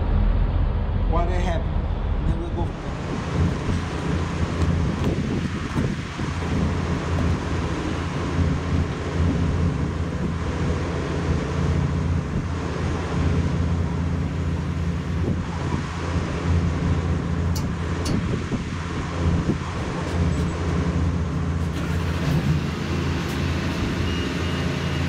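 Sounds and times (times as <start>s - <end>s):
wind buffeting microphone: 0.0s - 24.1s
diesel truck engine running: 0.0s - 25.0s.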